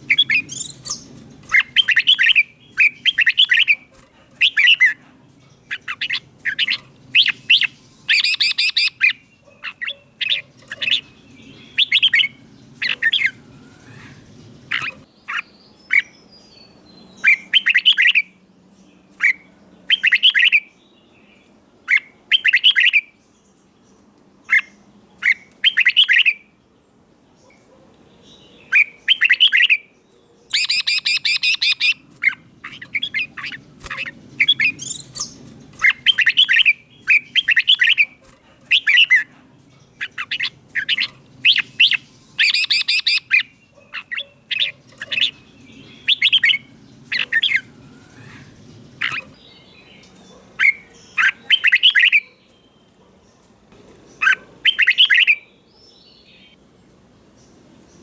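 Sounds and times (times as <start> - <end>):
bird singing quick phrases: 0.0 - 23.2, 23.9 - 26.4, 27.4 - 56.6.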